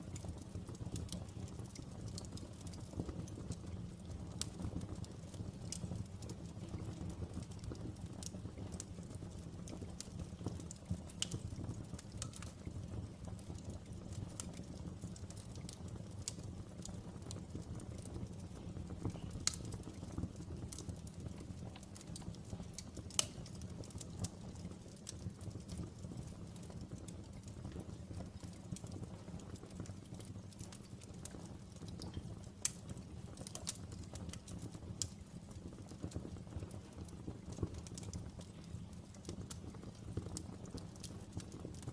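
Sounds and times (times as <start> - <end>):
fire burning with crackles: 0.0 - 41.9.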